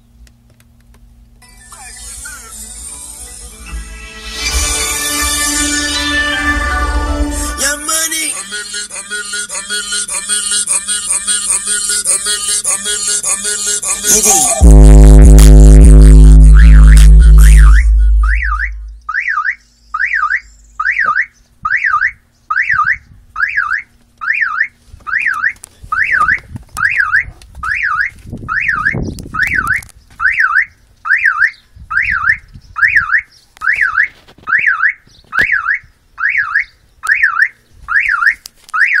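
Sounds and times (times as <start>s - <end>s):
car alarm warbling chirp: 1.4s - 39.0s.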